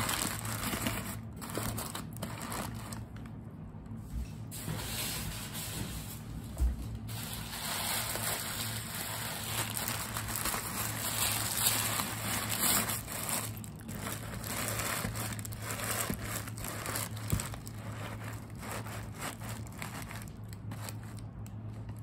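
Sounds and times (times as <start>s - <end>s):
paper rustling and crinkling: 0.0s - 3.3s, 4.2s - 22.0s.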